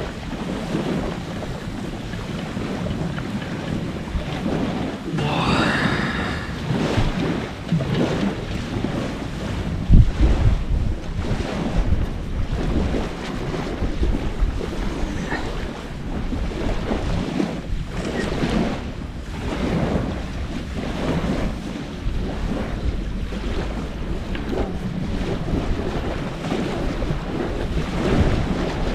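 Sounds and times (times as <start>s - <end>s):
wind gusting across microphone: 0.0s - 28.9s.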